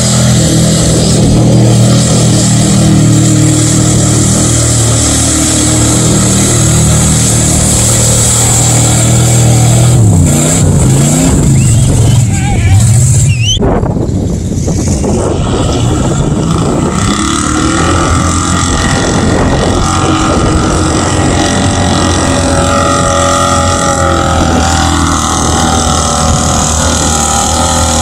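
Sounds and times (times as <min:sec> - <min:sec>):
truck engine at full throttle: 0:00.0 - 0:28.0.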